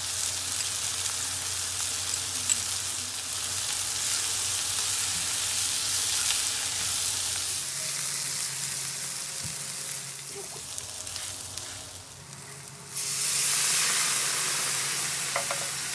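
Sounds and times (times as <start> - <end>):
vegetables sizzling in a frying pan: 0.0 - 15.9.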